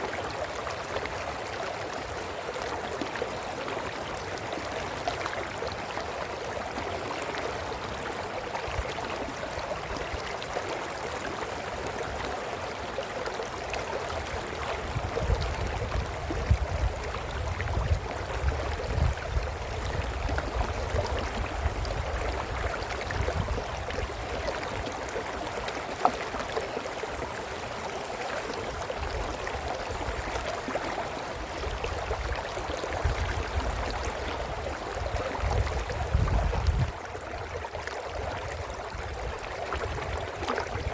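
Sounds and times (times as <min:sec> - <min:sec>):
brook babbling: 0:00.0 - 0:40.9.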